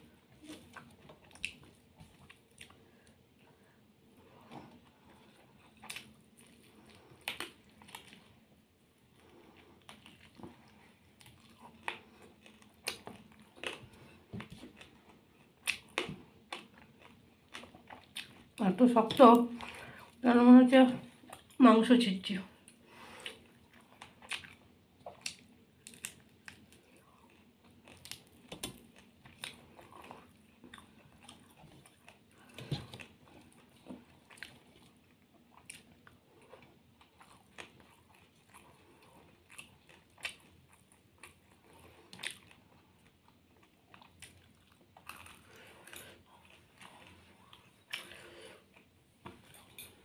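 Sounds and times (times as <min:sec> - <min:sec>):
person chewing: 0:00.0 - 0:08.4, 0:09.0 - 0:18.6, 0:22.6 - 0:50.0.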